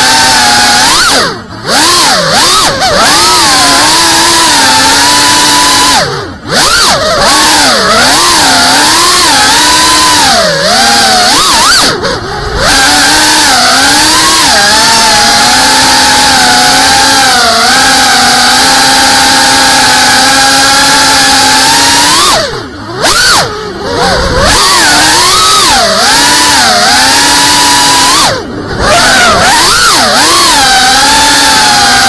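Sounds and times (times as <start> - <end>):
drone motors and propellers whining: 0.0 - 32.0.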